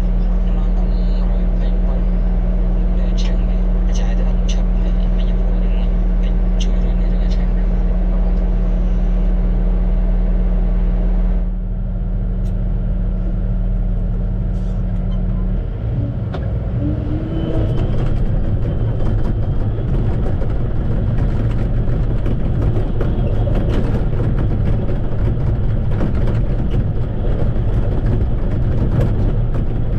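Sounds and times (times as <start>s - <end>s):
diesel earthmover engine: 0.0s - 29.9s.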